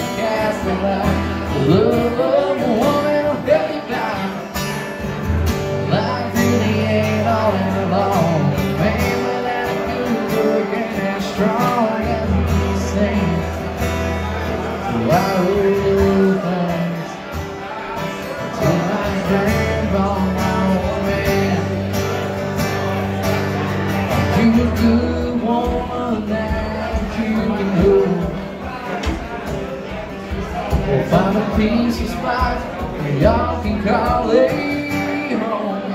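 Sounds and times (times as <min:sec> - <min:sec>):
acoustic guitar strumming: 0:00.0 - 0:35.9
man singing country song: 0:00.0 - 0:35.9.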